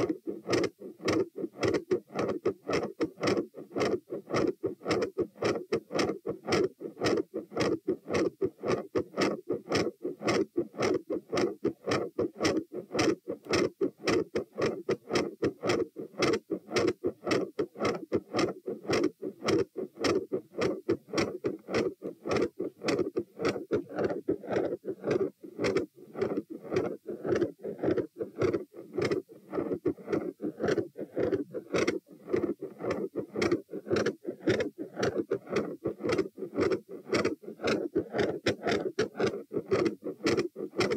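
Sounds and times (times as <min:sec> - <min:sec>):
heartbeat through stethoscope: 0:00.0 - 0:40.9.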